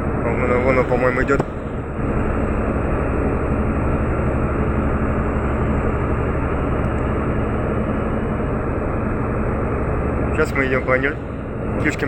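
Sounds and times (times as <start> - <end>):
boat diesel engines droning: 0.0 - 12.0.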